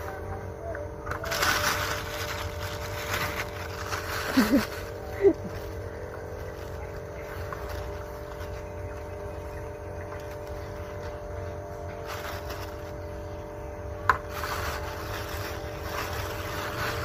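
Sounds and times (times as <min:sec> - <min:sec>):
plastic bag rustling: 0:01.0 - 0:17.0.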